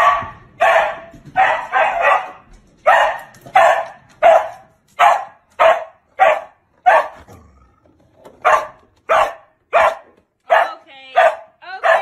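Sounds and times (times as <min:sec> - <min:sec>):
dog barking: 0:00.0 - 0:07.5, 0:08.4 - 0:12.0.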